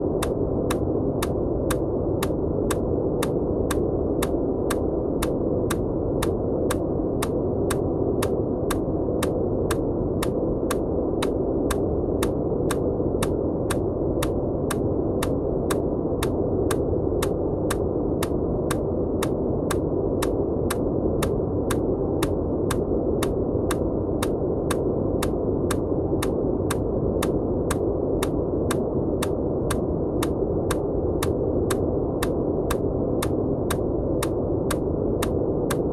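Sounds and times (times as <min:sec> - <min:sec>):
steady white noise: 0:00.0 - 0:35.9
short evenly spaced clicks: 0:00.2 - 0:35.9.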